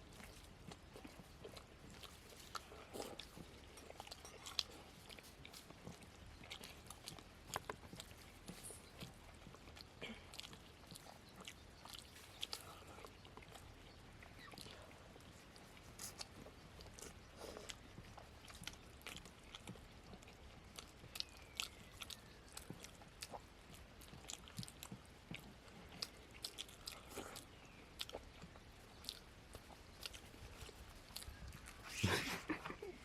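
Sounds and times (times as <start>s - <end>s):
people chewing with wet smacks: 0.0s - 33.0s.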